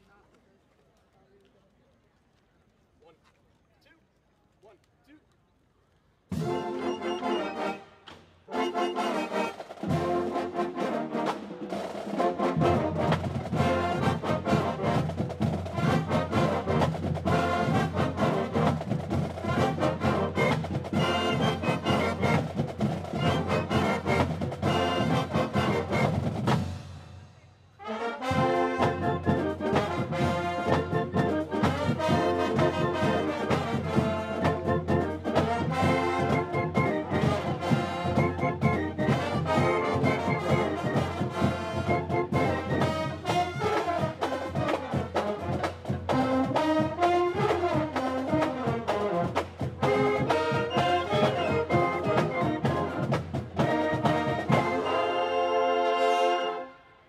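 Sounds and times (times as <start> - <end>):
brass band playing: 6.3 - 57.0.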